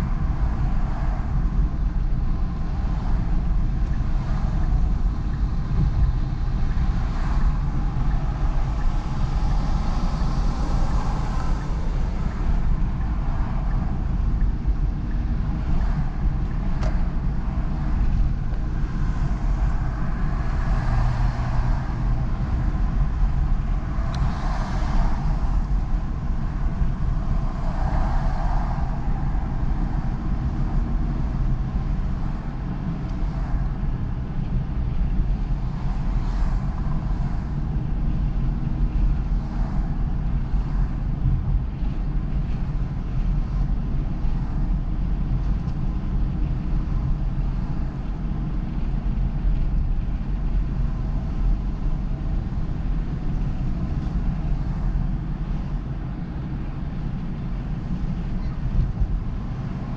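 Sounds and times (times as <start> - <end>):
engine and road rumble: 0.0 - 59.9
tyre and traffic noise: 0.0 - 59.9.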